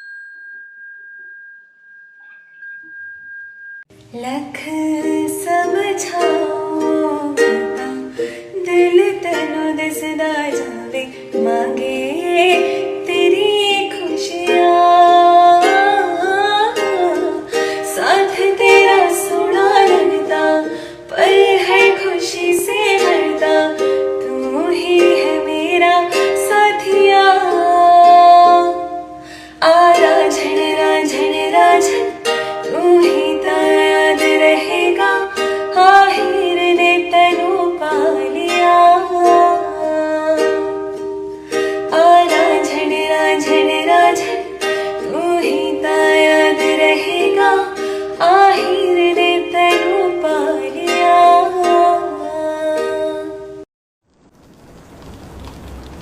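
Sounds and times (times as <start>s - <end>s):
romantic song: 4.0s - 53.7s.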